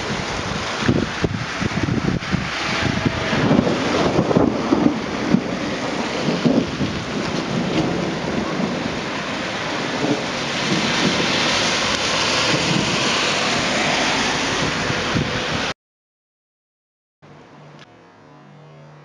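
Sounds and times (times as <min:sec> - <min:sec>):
rain: 0:00.0 - 0:15.7
wind gusts buffeting microphone: 0:00.0 - 0:15.7.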